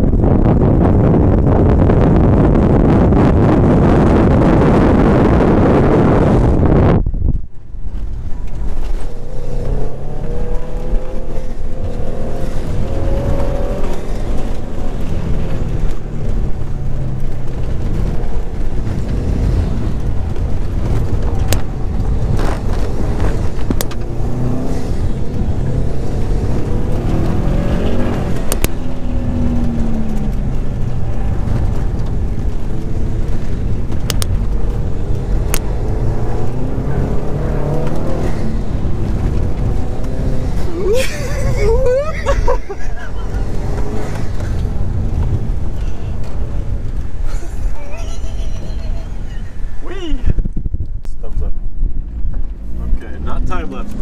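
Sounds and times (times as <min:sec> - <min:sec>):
road rumble: 0:00.0 - 0:54.0
wind buffeting on microphone: 0:00.0 - 0:54.0
car engine revving: 0:07.9 - 0:50.1, 0:51.2 - 0:54.0.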